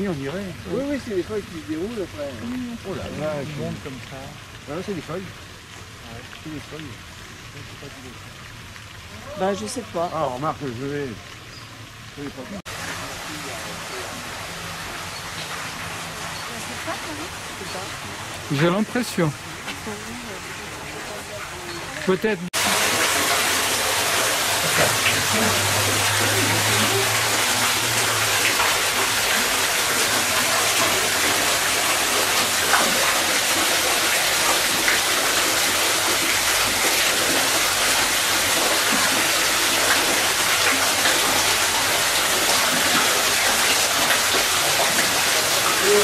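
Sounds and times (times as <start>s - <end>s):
waterfall pouring into pond: 0.0s - 46.0s.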